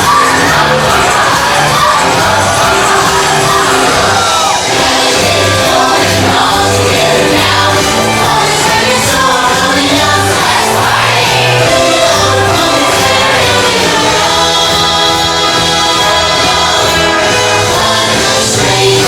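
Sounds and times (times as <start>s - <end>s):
choir singing: 0.0s - 19.0s
repeating bass line: 0.0s - 19.0s.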